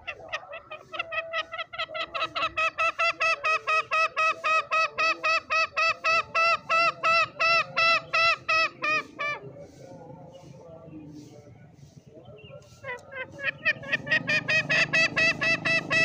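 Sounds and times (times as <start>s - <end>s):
junglefowl calling: 0.0s - 16.0s.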